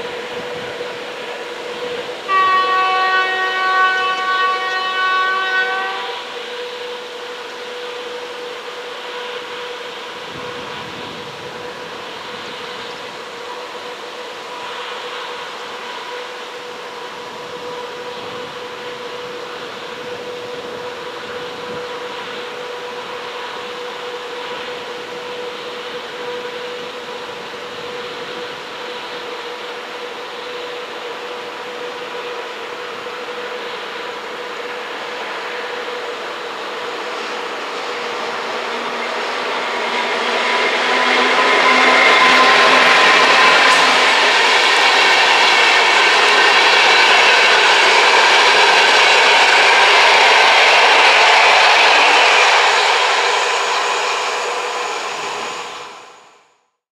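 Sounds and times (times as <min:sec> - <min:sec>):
electric locomotive horn blast: 0:00.0 - 0:56.2.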